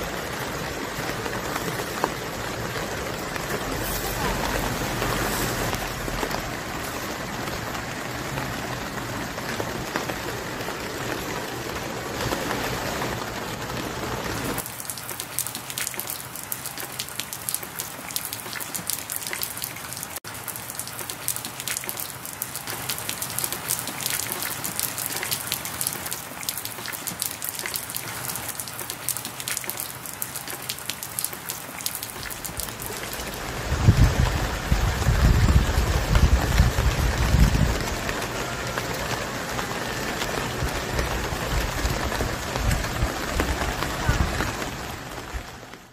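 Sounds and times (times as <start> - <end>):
rain falling: 0.0 - 45.9
raindrops ticking: 0.0 - 45.9.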